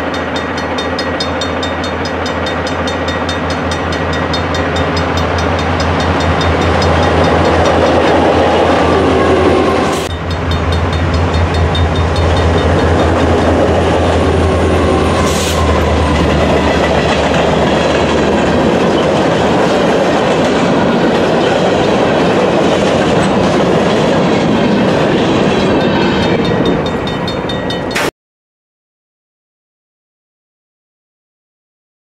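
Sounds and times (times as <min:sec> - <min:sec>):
diesel locomotive engine drone: 0:00.0 - 0:28.1
train cars rumbling and clacking: 0:00.0 - 0:28.1.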